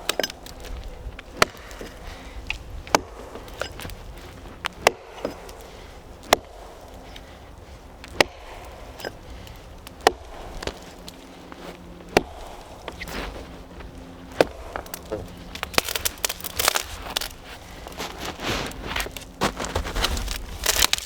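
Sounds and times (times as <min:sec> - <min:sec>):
axe chopping wood: 0:00.0 - 0:07.3, 0:07.9 - 0:21.0.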